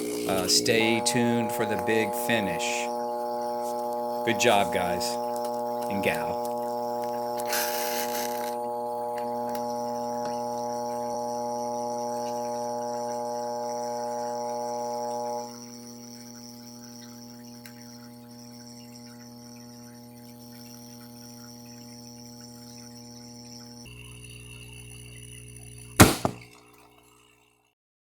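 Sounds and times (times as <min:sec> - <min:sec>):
air pump electric hum: 0:00.0 - 0:26.4.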